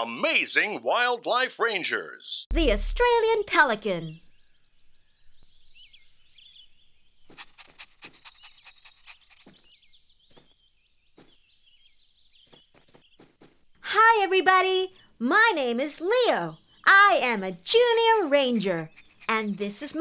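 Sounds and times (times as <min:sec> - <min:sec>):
small birds chirping: 0:02.6 - 0:20.0.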